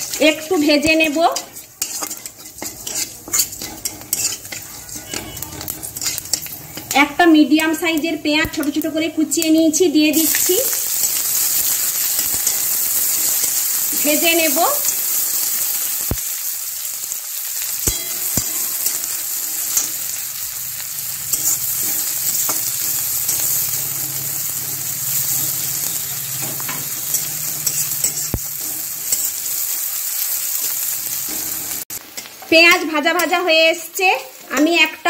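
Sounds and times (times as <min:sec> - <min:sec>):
onion sizzling in oil: 0:00.0 - 0:35.0.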